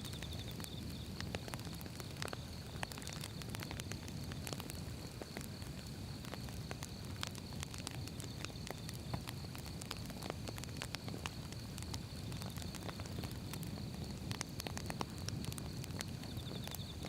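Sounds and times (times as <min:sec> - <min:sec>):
firewood crackling and popping: 0:00.0 - 0:17.0
low rumble of fire: 0:00.0 - 0:17.0.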